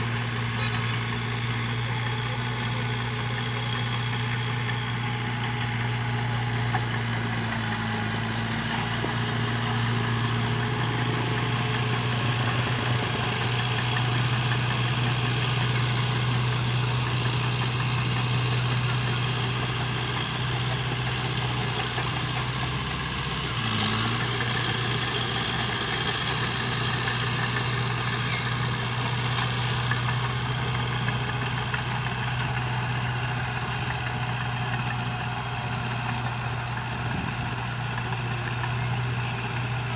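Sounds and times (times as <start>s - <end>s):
diesel engine of heavy machine: 0.0s - 39.9s.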